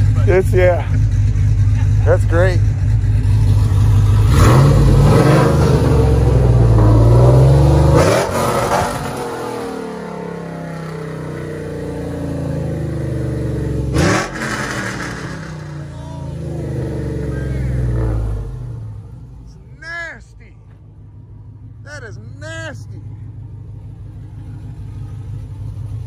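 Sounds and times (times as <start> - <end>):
engine revving and idling: 0.0 - 20.1, 20.7 - 26.0.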